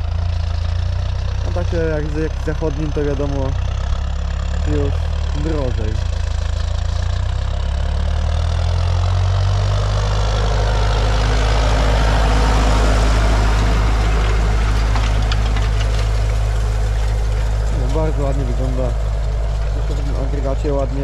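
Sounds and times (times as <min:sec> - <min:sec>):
tractor diesel engine passing: 0:00.0 - 0:21.0.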